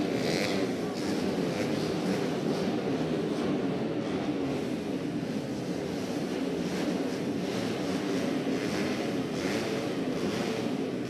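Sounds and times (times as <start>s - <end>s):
motorcycle engines droning: 0.0s - 11.0s.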